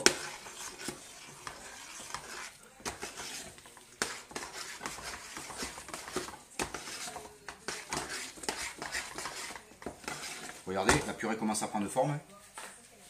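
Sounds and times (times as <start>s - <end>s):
utensil scraping a metal pot: 0.0s - 11.6s.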